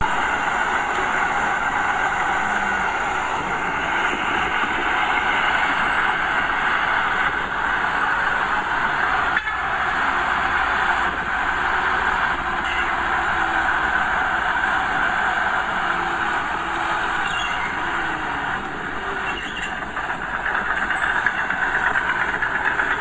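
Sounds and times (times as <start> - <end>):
diesel engine of earthmoving machine: 0.0 - 23.0.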